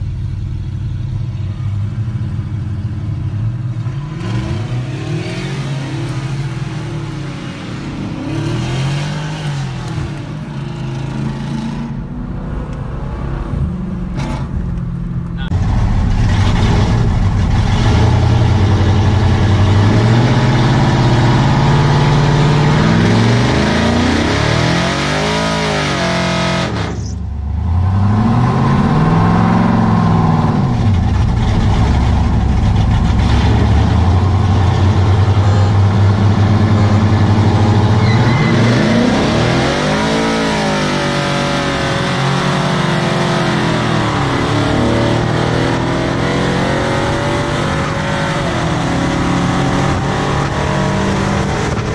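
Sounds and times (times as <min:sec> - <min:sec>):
loud engines revving: 0:00.0 - 0:51.9.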